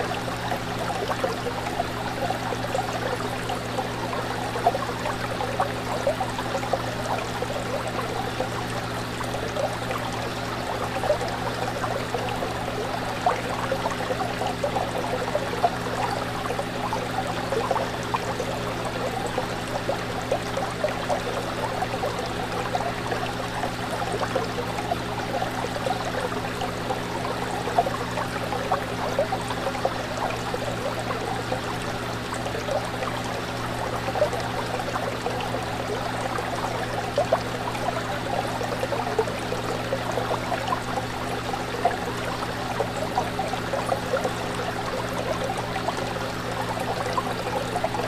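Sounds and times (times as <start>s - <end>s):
fish tank water bubbling: 0.0s - 48.0s.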